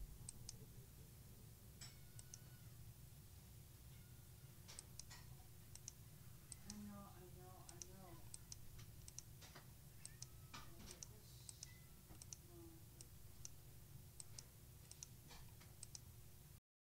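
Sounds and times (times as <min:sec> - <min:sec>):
low steady hum: 0:00.0 - 0:16.6.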